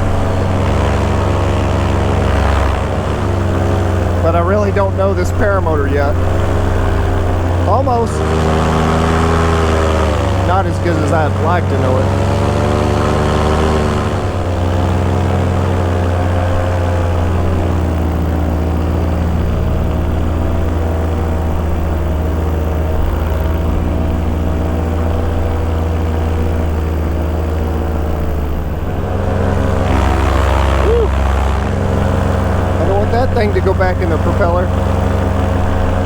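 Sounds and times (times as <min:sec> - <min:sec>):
paramotor engine and propeller: 0:00.0 - 0:36.0.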